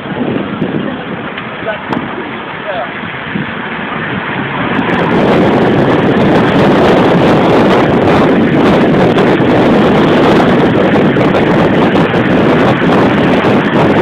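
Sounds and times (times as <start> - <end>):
road noise: 0.0 - 14.0
wind rushing over microphone: 0.0 - 14.0.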